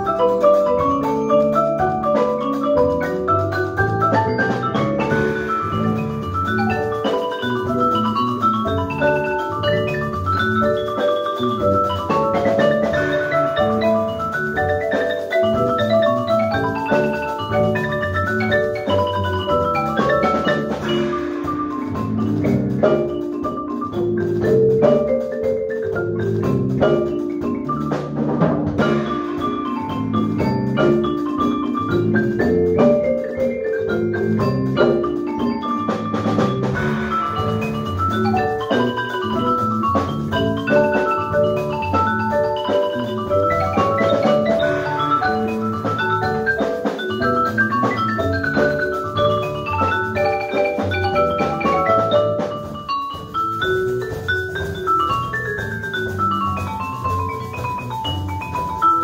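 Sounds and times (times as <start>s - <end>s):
marimbas and vibraphone playing: 0.0s - 59.0s.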